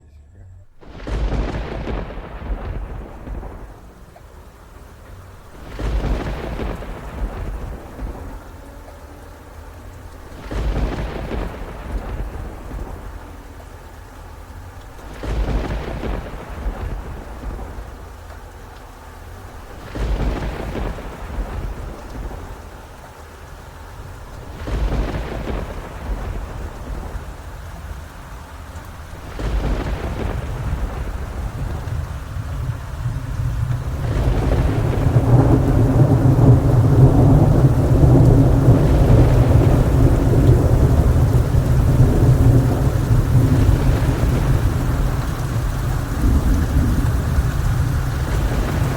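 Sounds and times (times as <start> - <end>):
steady rainfall: 0.0 - 48.9
thunder rolling: 0.6 - 48.9.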